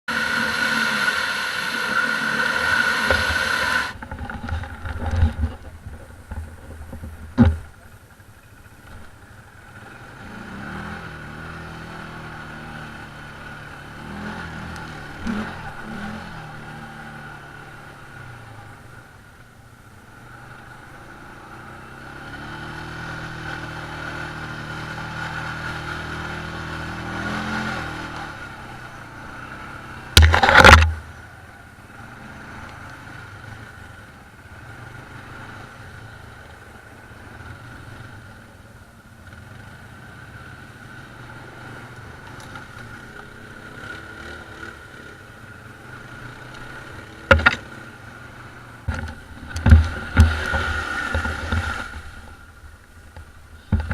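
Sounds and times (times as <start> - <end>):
quad bike engine revving: 0.1 - 5.7, 9.6 - 19.0, 20.2 - 31.2, 31.9 - 38.3, 39.2 - 52.4.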